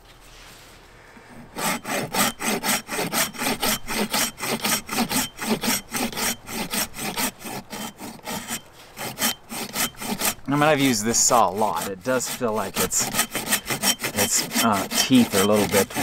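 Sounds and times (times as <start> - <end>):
folding saw cutting a log: 1.3 - 16.0.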